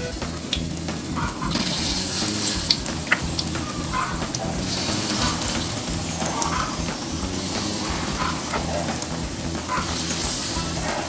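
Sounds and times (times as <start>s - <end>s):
batter deep-frying in oil: 0.0s - 11.0s
oil popping: 0.0s - 11.0s.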